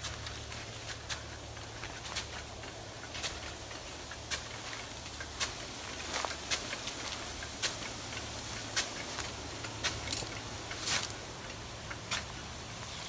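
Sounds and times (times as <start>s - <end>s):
sprinkler drive arm ticking: 0.0s - 13.0s
sprinkler spray hissing: 0.0s - 13.0s.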